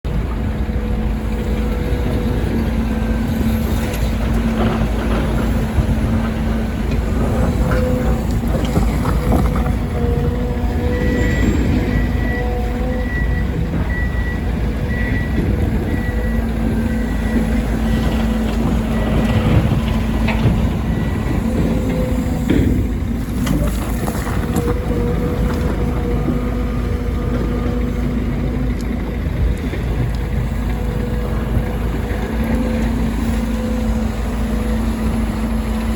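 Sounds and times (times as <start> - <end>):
excavator diesel engine: 0.0 - 35.9.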